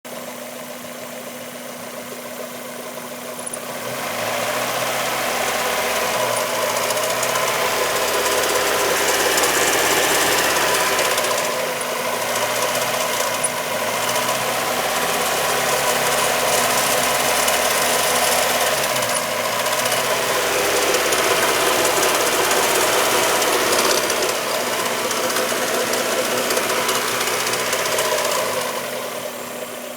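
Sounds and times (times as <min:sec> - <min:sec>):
car engine running: 0:00.1 - 0:29.9
exhaust noise: 0:00.8 - 0:29.9.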